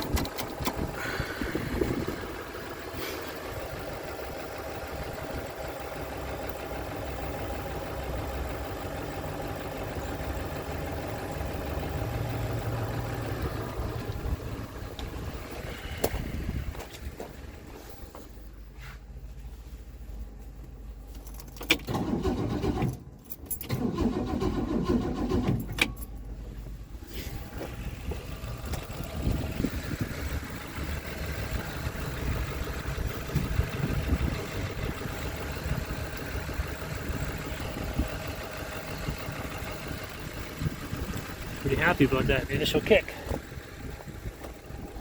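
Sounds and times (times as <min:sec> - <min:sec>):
car engine cranking and firing: 0:00.0 - 0:18.7, 0:20.3 - 0:45.0
car engine running: 0:00.0 - 0:45.0.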